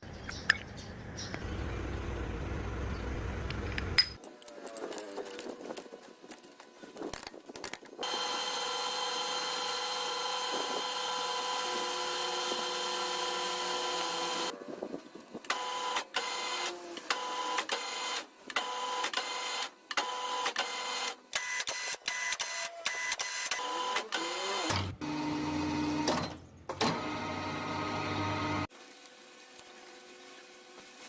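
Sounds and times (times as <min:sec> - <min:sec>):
small motor whining: 0:02.9 - 0:31.0.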